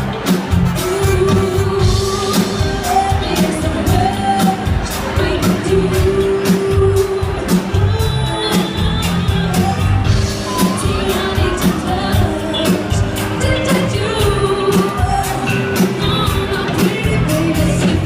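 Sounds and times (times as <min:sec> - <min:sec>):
pop song with singing: 0:00.0 - 0:18.0.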